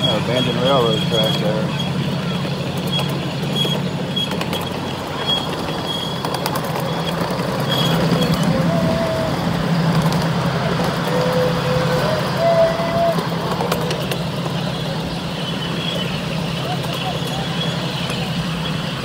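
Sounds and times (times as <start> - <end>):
low engine drone: 0.0 - 19.0
train cars running: 0.0 - 19.0.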